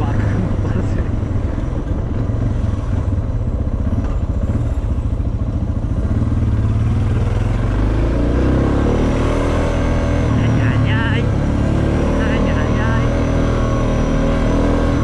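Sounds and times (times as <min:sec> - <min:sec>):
motorcycle engine running at low speed: 0:00.0 - 0:15.0.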